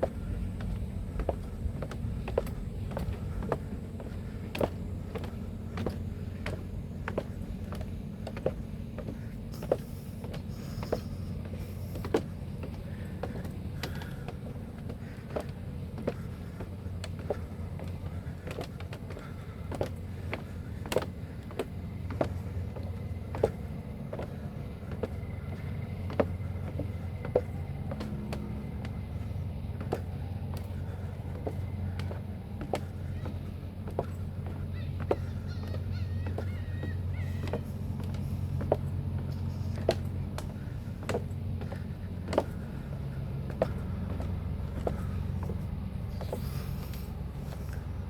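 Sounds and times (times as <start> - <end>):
footsteps on deck walkway: 0.0 - 48.0
steady low rumble: 0.0 - 48.0.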